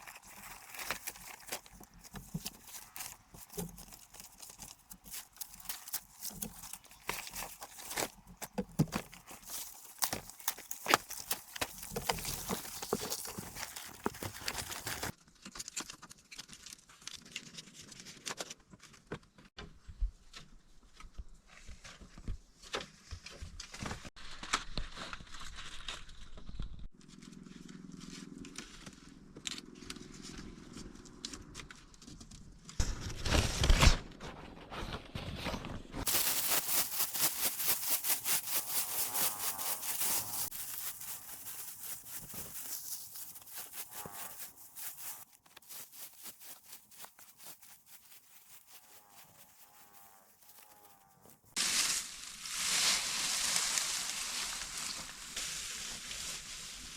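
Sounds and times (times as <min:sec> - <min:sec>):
dry grass rustling and crackling: 0:00.0 - 0:18.1, 0:23.0 - 0:33.8, 0:36.0 - 0:56.9.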